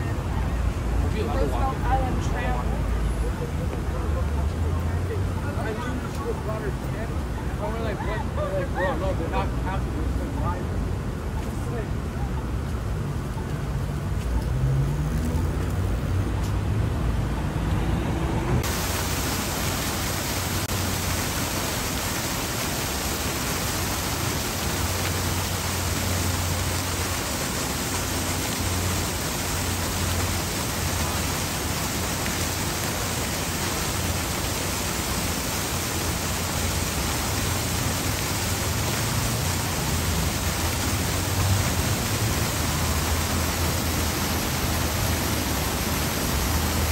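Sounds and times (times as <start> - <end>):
fountain jets splashing: 0.0 - 46.9
street traffic rumble: 0.0 - 46.9.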